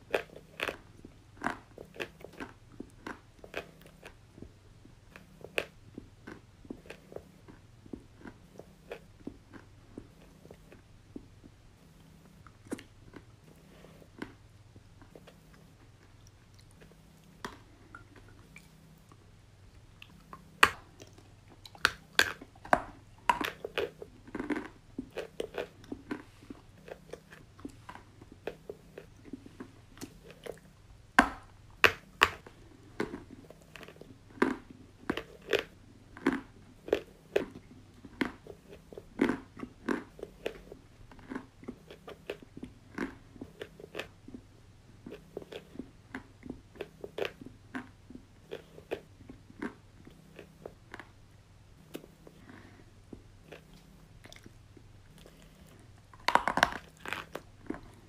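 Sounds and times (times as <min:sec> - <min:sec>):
chalk being chewed and crunched: 0:00.0 - 0:11.3, 0:12.2 - 0:30.8, 0:31.8 - 0:44.4, 0:45.0 - 0:51.1, 0:51.8 - 0:58.0.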